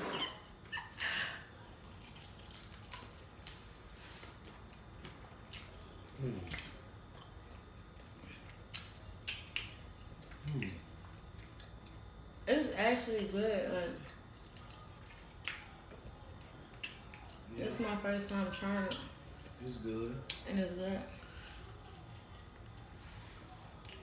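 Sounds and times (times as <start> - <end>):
people chewing: 0.0 - 12.4, 14.0 - 24.0.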